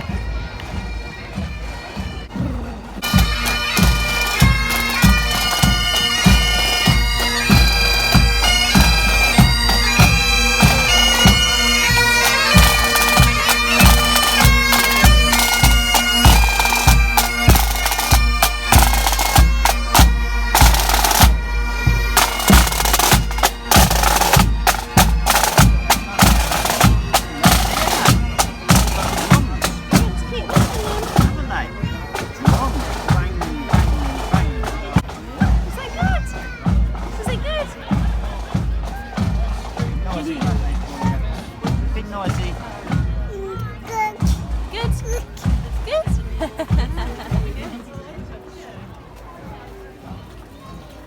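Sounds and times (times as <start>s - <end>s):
bagpipes with drones: 0.0s - 48.0s
regular drum beat: 2.2s - 48.3s.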